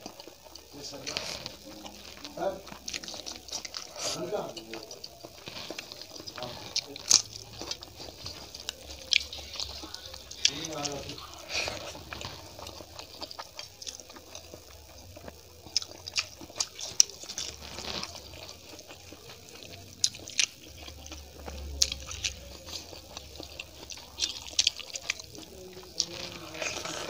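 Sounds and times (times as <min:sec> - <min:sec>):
chewing: 0:00.0 - 0:27.0.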